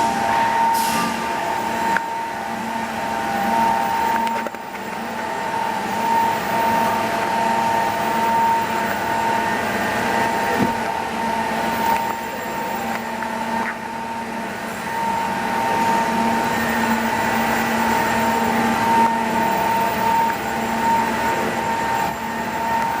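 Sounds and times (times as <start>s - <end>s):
machine whine and hum: 0.0s - 23.0s.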